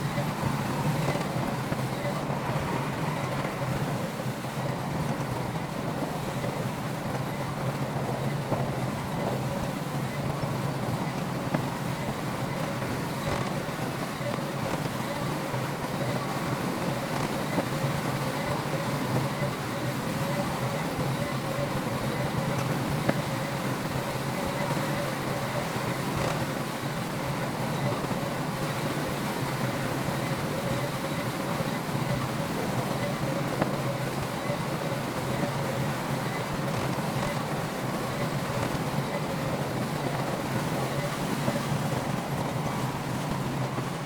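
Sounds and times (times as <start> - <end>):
faint steady whine: 0.0 - 44.0.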